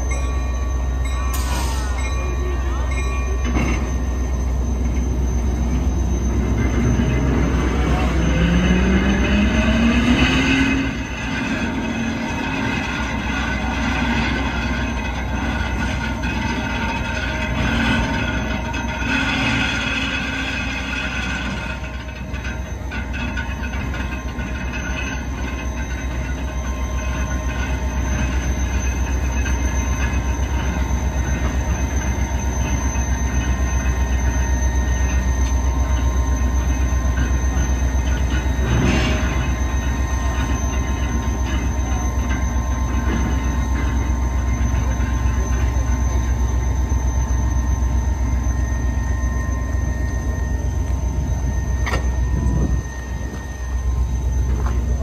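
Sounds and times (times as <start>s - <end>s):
diesel locomotive engine idling: 0.0s - 55.0s
metallic squealing: 0.0s - 55.0s.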